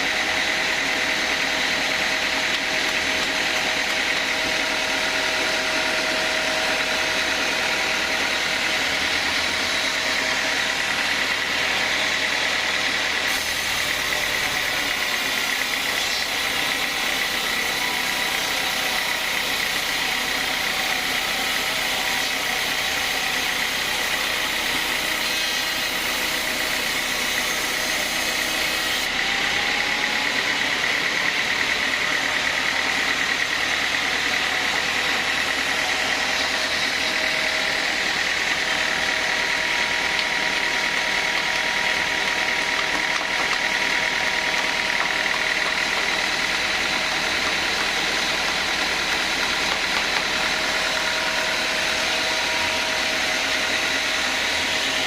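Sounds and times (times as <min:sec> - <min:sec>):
band saw running: 0:00.0 - 0:55.0.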